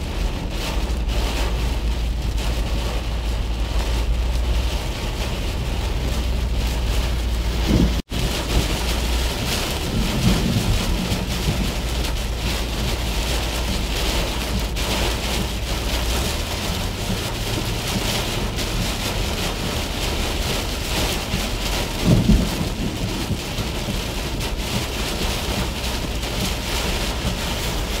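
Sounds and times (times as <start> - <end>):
heavy rain on car: 0.0 - 28.0
low rumble: 0.0 - 28.0.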